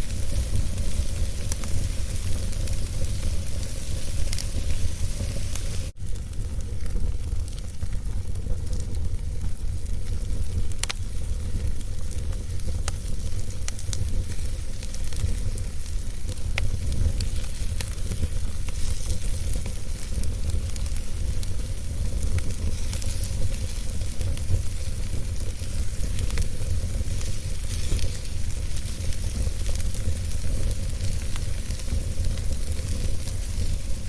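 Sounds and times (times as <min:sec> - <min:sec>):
fire flames rumbling: 0:00.0 - 0:34.0
logs crackling and popping: 0:00.0 - 0:34.0.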